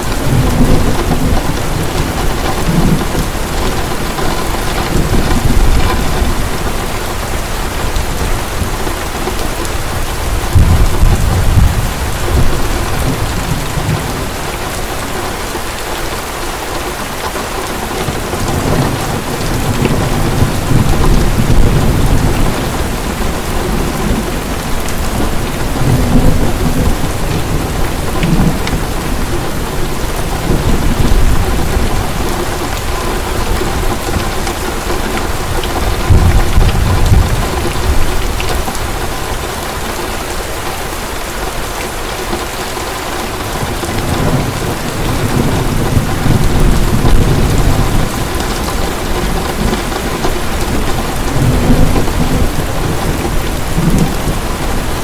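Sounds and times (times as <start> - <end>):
thunder rumbling: 0.0 - 16.8, 17.4 - 41.2, 42.6 - 55.0
heavy rain pouring: 0.0 - 55.0.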